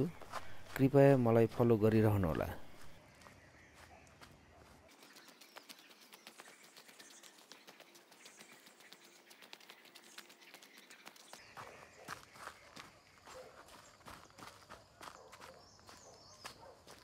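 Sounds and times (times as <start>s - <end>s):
footsteps on leafy dirt trail: 0.0s - 17.0s.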